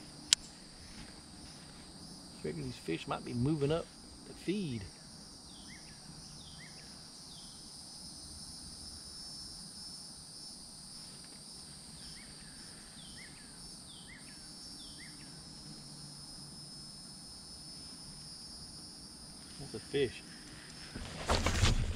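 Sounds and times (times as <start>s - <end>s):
high-pitched insect chorus: 0.0s - 21.9s.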